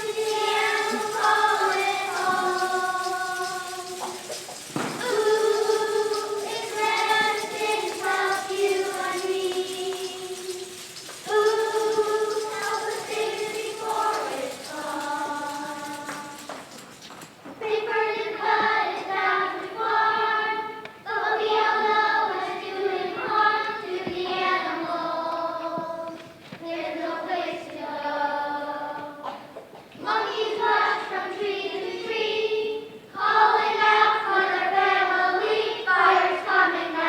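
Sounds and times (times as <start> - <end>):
children's choir singing: 0.0 - 37.0.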